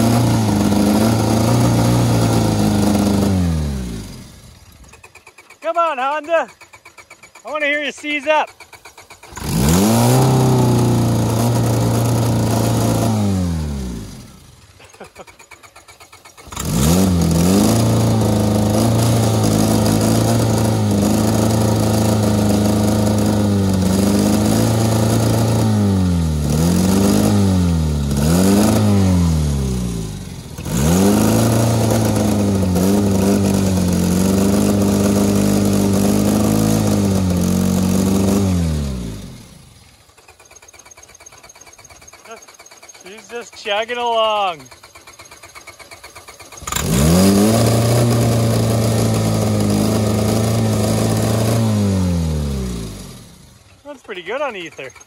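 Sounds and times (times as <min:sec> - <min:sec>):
car engine running at high revs: 0:00.0 - 0:06.7, 0:09.1 - 0:55.0.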